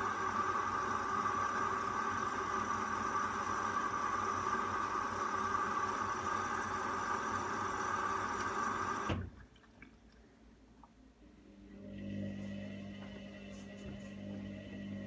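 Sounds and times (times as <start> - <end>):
washing machine spinning: 0.0 - 9.3, 11.5 - 15.0.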